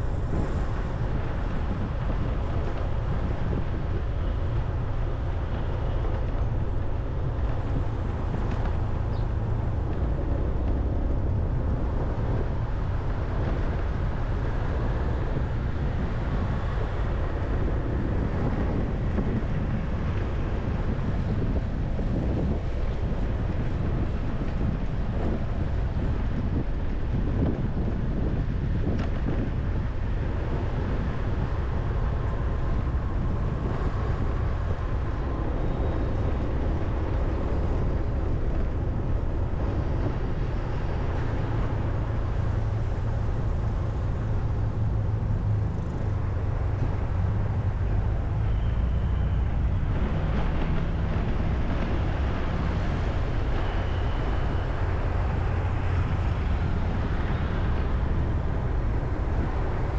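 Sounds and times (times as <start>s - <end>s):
low rumble of vehicles: 0.0s - 59.9s.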